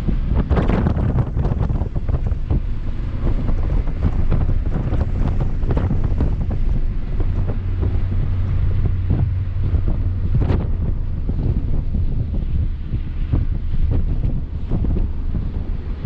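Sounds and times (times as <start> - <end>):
car engine and road noise: 0.0 - 16.0
wind buffeting microphone: 0.0 - 16.0.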